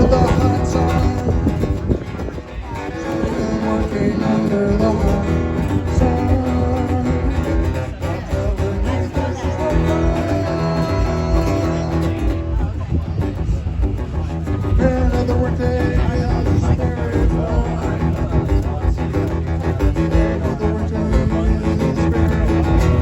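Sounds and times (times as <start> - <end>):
live blues-rock guitar instrumental: 0.0 - 23.0.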